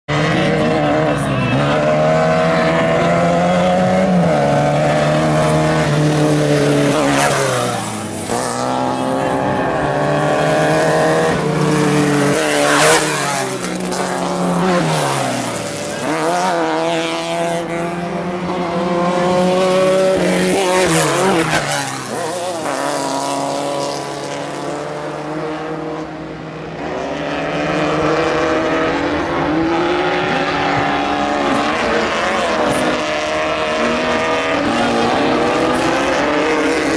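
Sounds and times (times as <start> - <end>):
racing buggy engines revving: 0.1 - 36.9.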